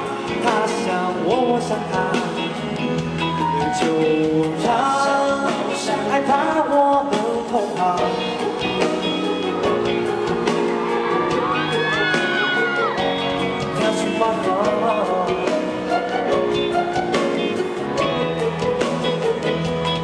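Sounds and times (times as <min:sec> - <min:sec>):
live pop band playing: 0:00.0 - 0:20.0
person singing: 0:00.0 - 0:20.0.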